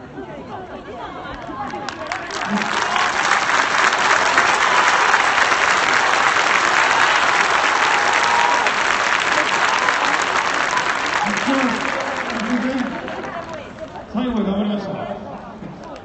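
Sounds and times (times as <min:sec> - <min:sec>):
stadium crowd applauding: 0:01.3 - 0:14.7.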